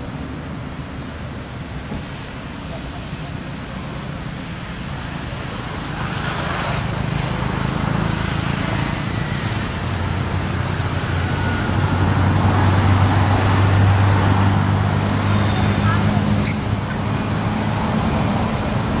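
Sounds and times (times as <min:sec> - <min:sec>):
road noise: 0:00.0 - 0:19.0
vehicle engine hum: 0:00.0 - 0:19.0.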